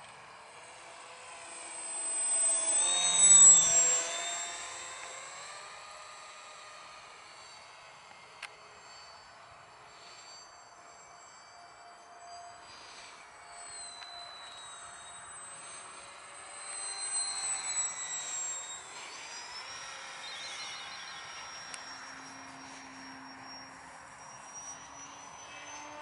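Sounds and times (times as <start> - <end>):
model jet motor whine: 0.0 - 26.0.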